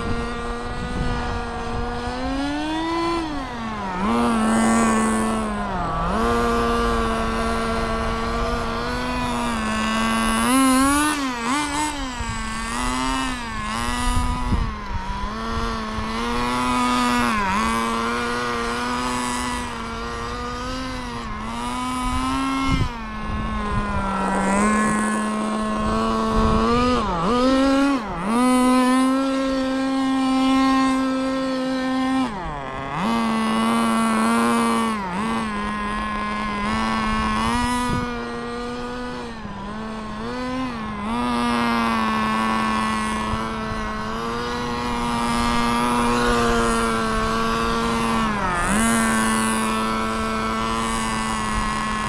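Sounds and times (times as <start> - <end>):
model car engine revving: 0.0 - 52.0.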